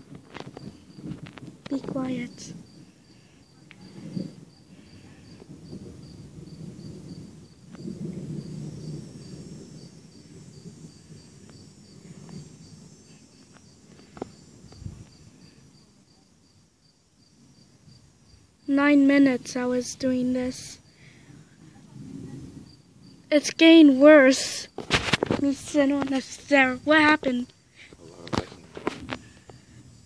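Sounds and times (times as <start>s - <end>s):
distant thunder rumbling: 0.0s - 16.2s, 17.1s - 30.0s
insects chirping: 0.0s - 30.0s.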